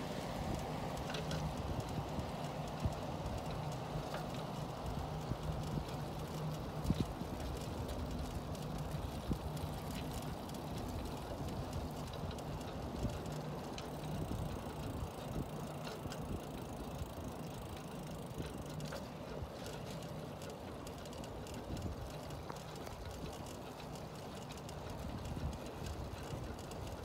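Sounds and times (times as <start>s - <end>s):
bicycle tyres on gravelly path: 0.0s - 27.0s
bike rattles and clicks: 0.0s - 27.0s.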